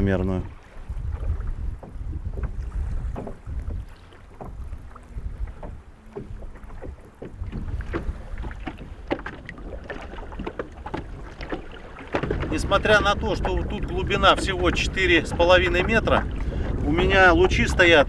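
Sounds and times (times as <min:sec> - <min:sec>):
waves slapping boat hull: 0:00.0 - 0:18.0
wind rumbling on microphone: 0:00.0 - 0:18.0.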